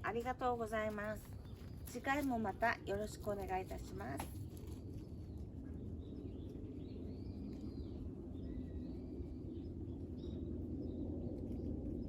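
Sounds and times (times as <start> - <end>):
faint birds chirping: 0.0 - 12.0
low outdoor rumble: 0.0 - 12.0.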